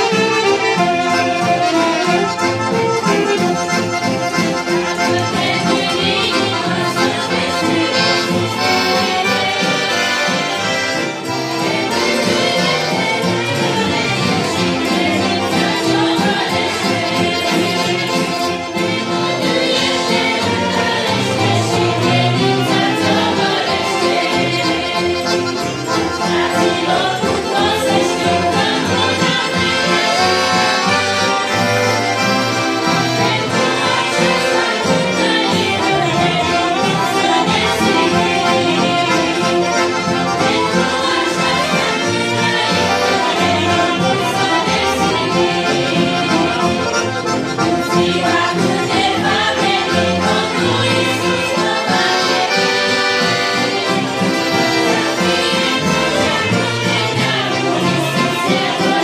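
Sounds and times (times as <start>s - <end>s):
piano accordion: 0.0s - 59.0s
youth choir singing a hymn: 0.0s - 59.0s.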